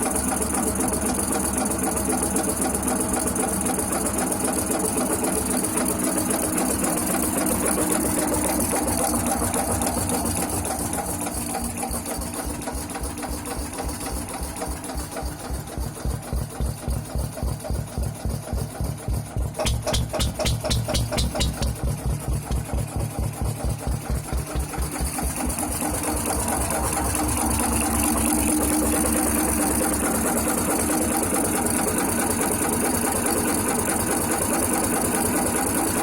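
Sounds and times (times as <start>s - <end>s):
stationary diesel engine running: 0.0s - 36.0s.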